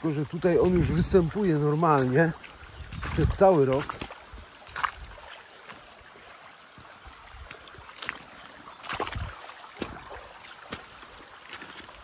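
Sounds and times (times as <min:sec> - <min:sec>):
mountain stream running: 0:00.0 - 0:12.0
footsteps: 0:00.6 - 0:05.9, 0:07.5 - 0:12.0.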